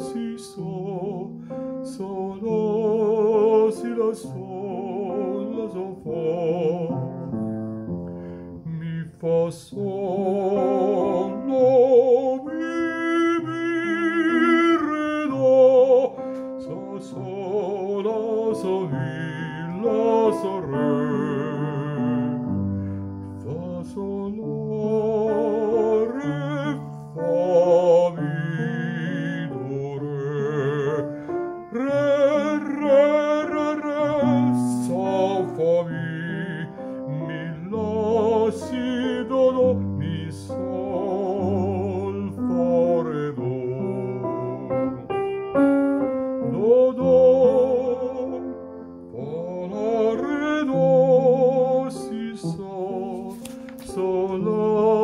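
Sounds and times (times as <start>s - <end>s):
man singing: 0.0s - 55.0s
piano accompaniment: 0.0s - 55.0s.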